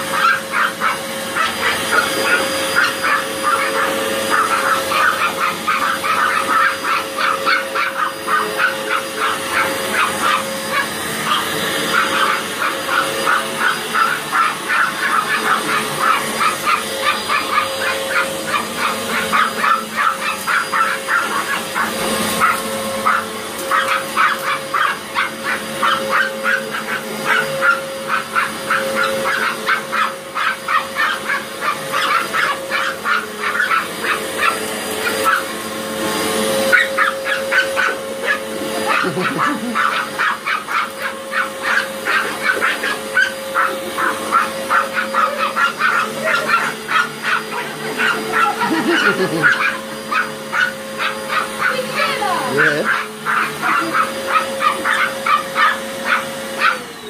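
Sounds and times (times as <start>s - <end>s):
small dogs barking: 0.0s - 57.0s
vacuum cleaner running: 0.0s - 57.0s.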